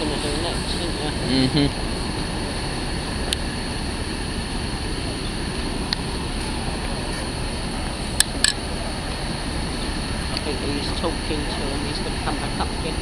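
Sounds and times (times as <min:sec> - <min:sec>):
faint high whine: 0:00.0 - 0:13.0
hovercraft engine drone: 0:00.0 - 0:13.0.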